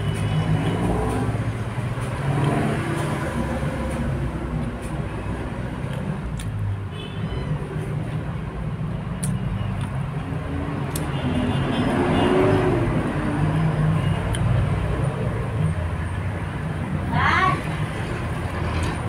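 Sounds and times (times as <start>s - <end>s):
vehicle passing: 0.0s - 6.4s, 10.0s - 19.0s
traffic engine rumble: 0.0s - 19.0s.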